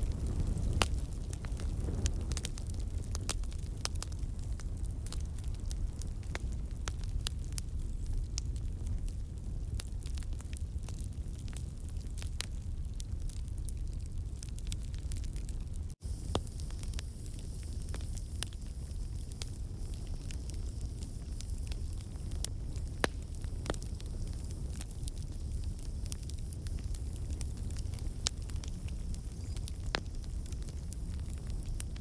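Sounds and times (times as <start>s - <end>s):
campfire flames rumbling: 0.0s - 32.0s
logs popping and crackling: 0.0s - 32.0s.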